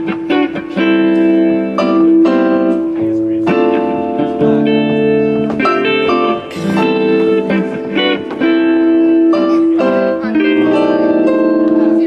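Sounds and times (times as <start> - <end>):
electric guitar melody: 0.0 - 12.0
keyboard: 0.0 - 12.0.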